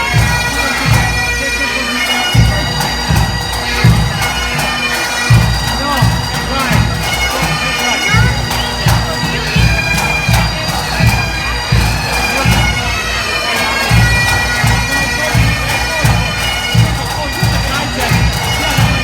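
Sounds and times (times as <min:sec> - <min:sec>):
bagpipes playing a melody: 0:00.0 - 0:19.0.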